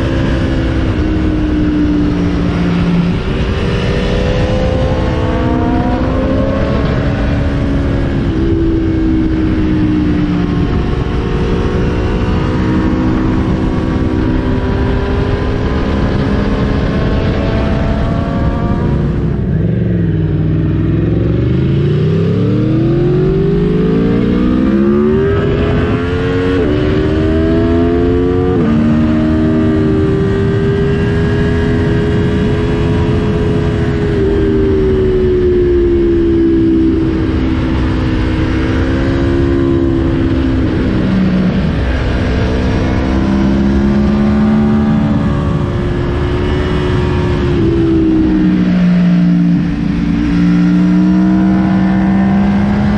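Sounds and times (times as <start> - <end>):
motorcycle engine accelerating: 0.0 - 52.9
wind on microphone: 0.0 - 52.9.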